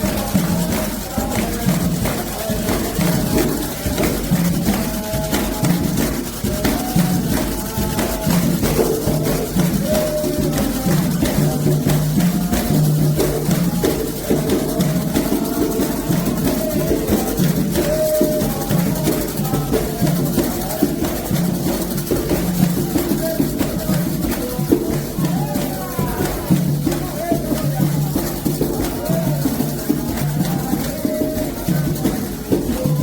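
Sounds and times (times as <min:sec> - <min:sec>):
hand drums: 0:00.0 - 0:33.0
shaker percussion: 0:00.0 - 0:33.0
voices singing a chant: 0:00.0 - 0:33.0.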